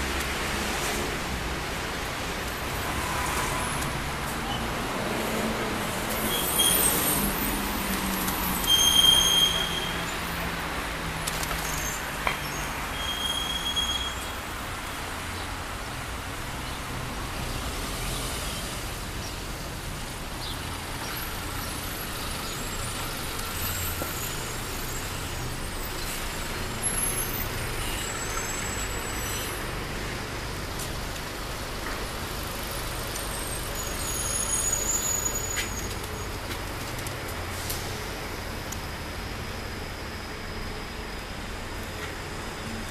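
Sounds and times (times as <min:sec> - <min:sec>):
buses and cars passing: 0:00.0 - 0:42.9.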